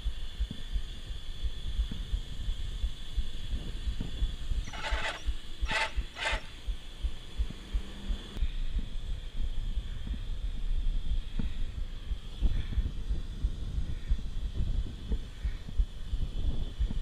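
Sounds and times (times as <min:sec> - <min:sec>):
short hiss bursts: 0:00.0 - 0:17.0
wind buffeting microphone: 0:00.0 - 0:17.0.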